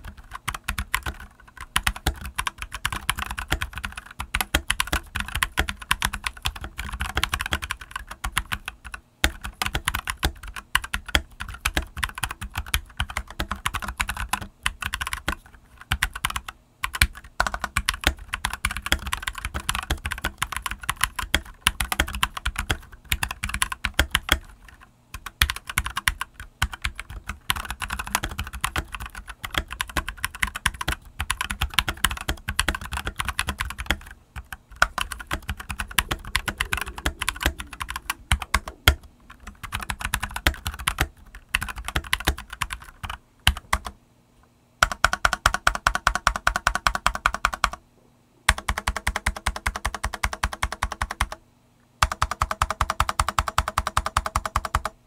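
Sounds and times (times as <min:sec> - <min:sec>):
mechanical keyboard typing: 0:00.0 - 0:44.0, 0:44.8 - 0:47.8, 0:48.5 - 0:51.4, 0:52.0 - 0:55.0.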